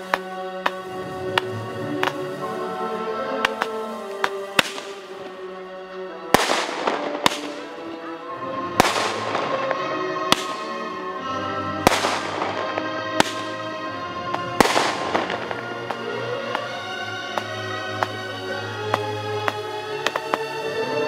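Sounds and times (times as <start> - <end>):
fireworks bursting with crackle: 0.0 - 5.6, 6.3 - 20.8
background music with held notes: 0.0 - 21.0.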